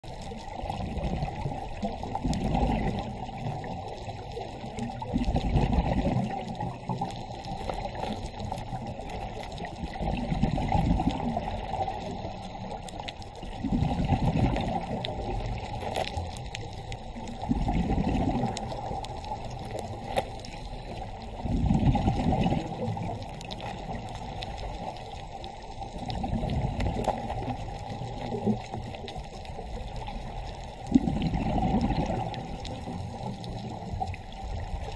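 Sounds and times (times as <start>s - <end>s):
muffled underwater water noise: 0.0s - 34.9s.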